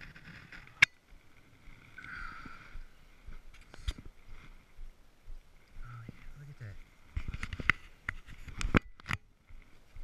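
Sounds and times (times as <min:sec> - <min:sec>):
faint rustling: 0:00.0 - 0:10.0.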